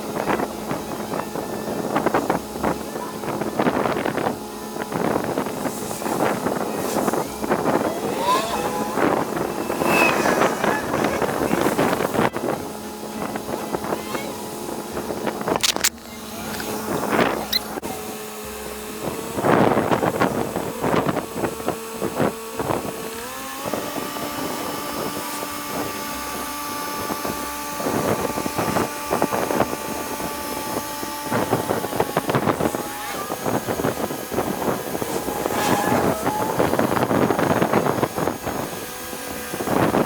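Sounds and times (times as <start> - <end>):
vehicle engine humming: 0.0 - 40.0
wind noise on microphone: 0.0 - 40.0.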